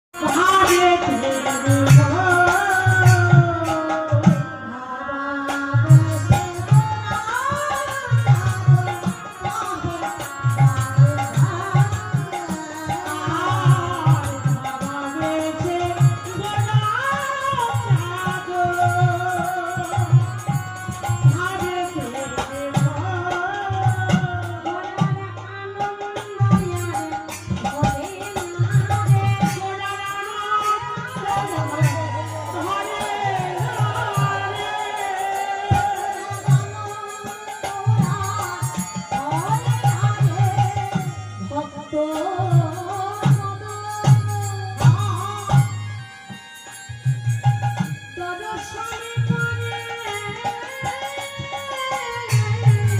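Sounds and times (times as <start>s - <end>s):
person singing devotional melody: 0.2s - 52.9s.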